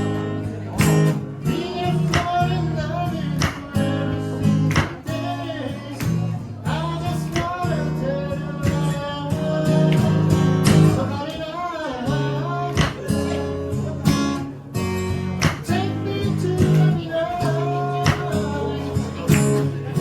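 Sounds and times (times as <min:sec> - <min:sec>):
acoustic guitar strumming chords: 0:00.0 - 0:20.0
person singing wordless vocal: 0:01.4 - 0:14.4, 0:15.5 - 0:20.0.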